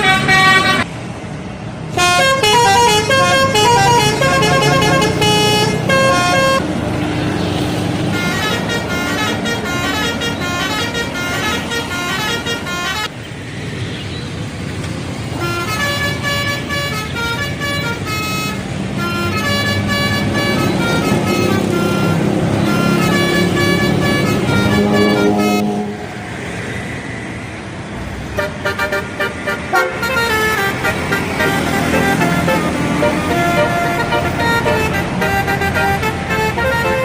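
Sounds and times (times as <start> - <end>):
bus horn playing tunes: 0.0 - 0.9, 1.9 - 6.7, 8.0 - 13.1, 15.3 - 26.6, 28.3 - 37.0
bus and road noise: 0.0 - 37.0.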